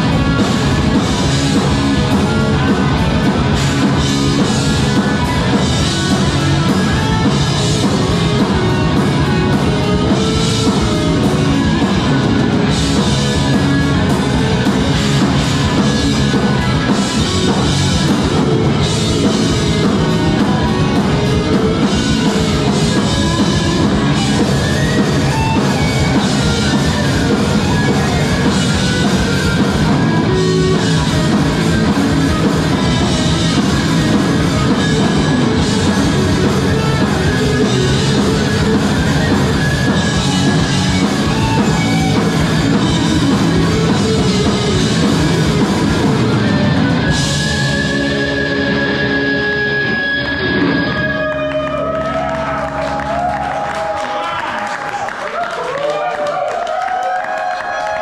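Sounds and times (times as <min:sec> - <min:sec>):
drum kit: 0:00.0 - 0:55.4
electric guitar: 0:00.0 - 0:58.0.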